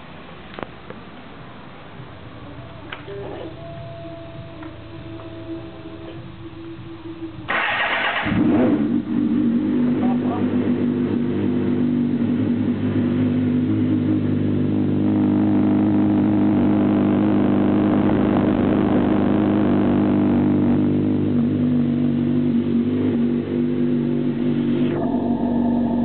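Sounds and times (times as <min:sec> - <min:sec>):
motorcycle engine running: 0:02.6 - 0:26.0.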